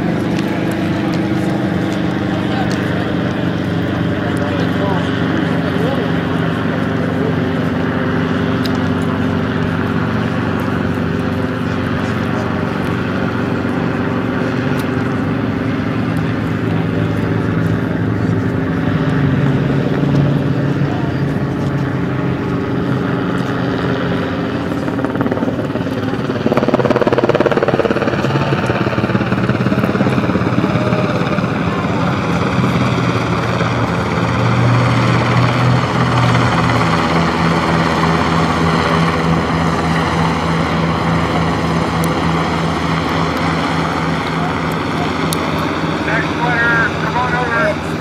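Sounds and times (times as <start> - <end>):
helicopter flying over: 0.0 - 48.0.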